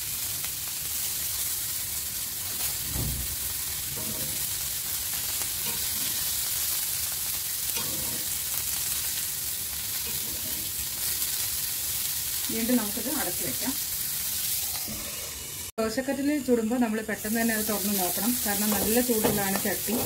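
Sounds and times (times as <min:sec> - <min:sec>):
meat sizzling in oil on a griddle: 0:00.0 - 0:15.8, 0:16.5 - 0:20.0.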